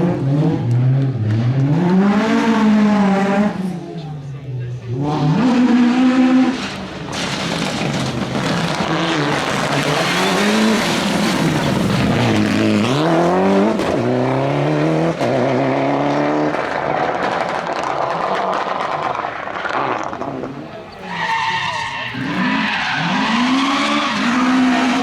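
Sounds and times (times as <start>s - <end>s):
rally car engine accelerating: 0.0s - 4.1s, 4.8s - 25.0s.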